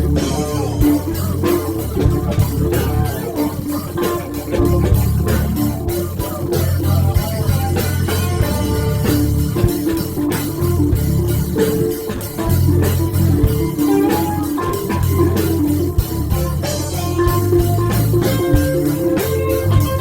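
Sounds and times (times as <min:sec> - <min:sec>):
guitar-led rock music: 0:00.0 - 0:20.0.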